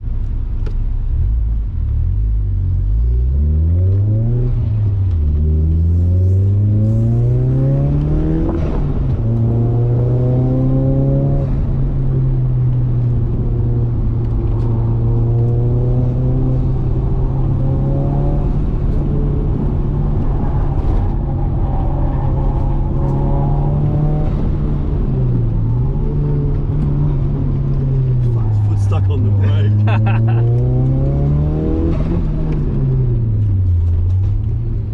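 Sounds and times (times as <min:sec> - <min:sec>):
car engine accelerating hard: 0:01.2 - 0:34.9.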